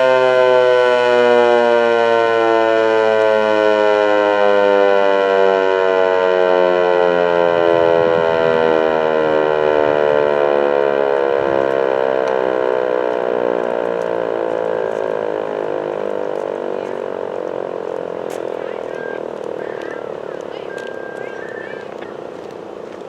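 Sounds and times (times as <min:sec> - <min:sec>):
warning siren winding down: 0:00.0 - 0:22.5.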